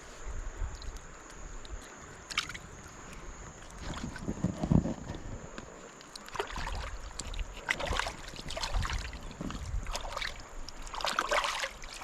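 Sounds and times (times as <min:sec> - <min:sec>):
water sloshing: 0:00.8 - 0:12.0.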